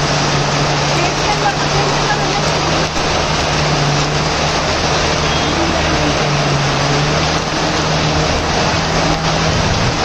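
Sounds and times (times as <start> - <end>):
heavy rain hissing: 0.0 - 10.0
traffic engines humming: 0.0 - 10.0.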